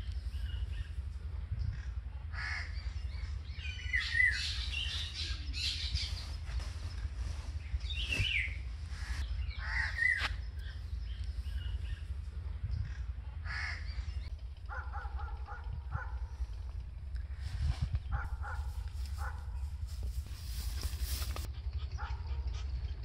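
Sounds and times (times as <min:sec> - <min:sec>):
harsh bird calls: 0:00.0 - 0:23.0
steady low rumble: 0:00.0 - 0:23.0.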